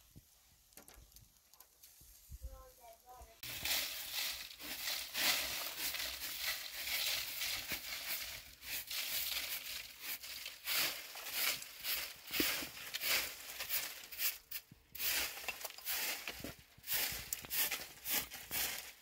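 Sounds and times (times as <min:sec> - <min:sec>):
dry leaves crunching underfoot: 0:03.4 - 0:19.0.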